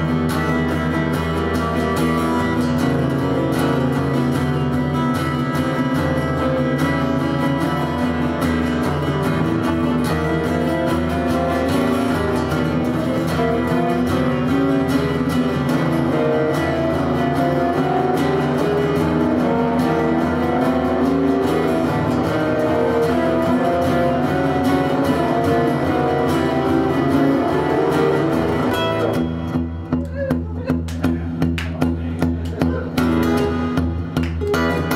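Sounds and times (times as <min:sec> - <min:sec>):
acoustic guitar strumming: 0:00.0 - 0:34.9.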